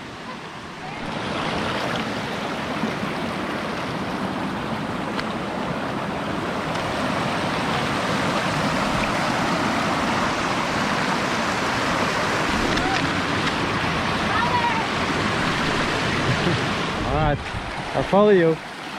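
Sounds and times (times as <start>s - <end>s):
river water running over rocks: 0.0s - 18.9s.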